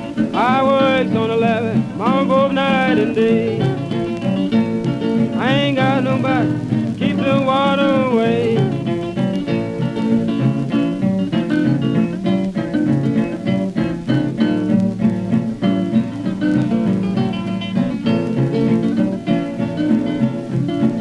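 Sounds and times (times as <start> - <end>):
acoustic blues guitar picking: 0.0 - 21.0.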